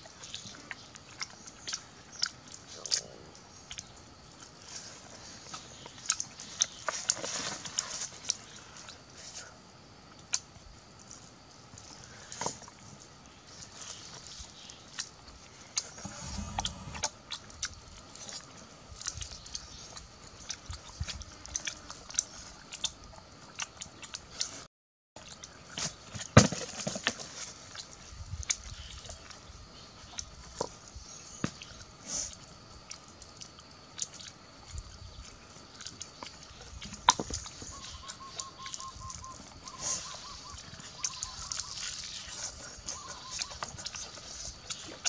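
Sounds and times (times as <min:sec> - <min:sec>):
chewing and eating sounds: 0:00.0 - 0:45.0.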